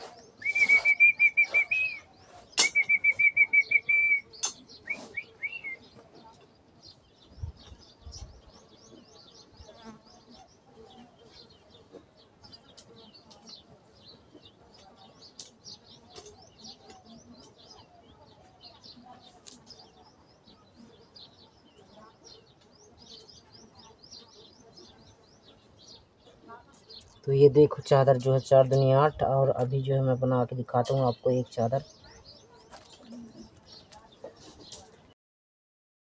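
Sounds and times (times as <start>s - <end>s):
small birds chirping: 0.0s - 35.2s.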